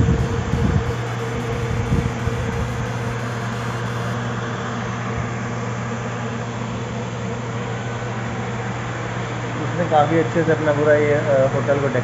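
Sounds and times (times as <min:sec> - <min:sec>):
room fans humming: 0:00.0 - 0:12.0.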